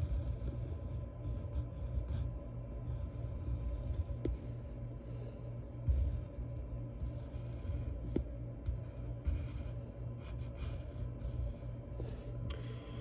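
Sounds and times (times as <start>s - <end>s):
pencil scratching on paper: 0.0s - 12.4s
low steady hum: 0.0s - 13.0s.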